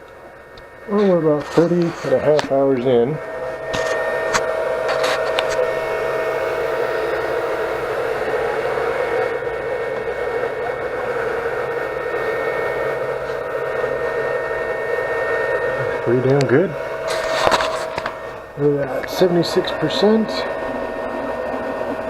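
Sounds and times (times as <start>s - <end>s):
steady tones: 0.0s - 22.0s
three d printer whirring: 0.0s - 22.0s.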